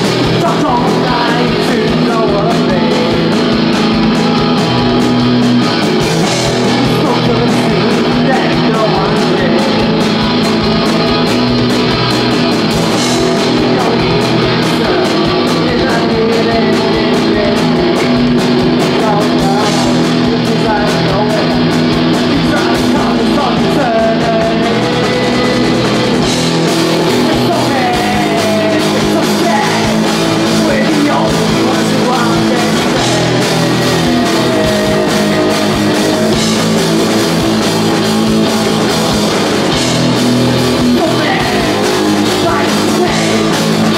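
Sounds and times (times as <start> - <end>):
live rock band playing: 0.0 - 43.9
man singing: 0.0 - 43.9.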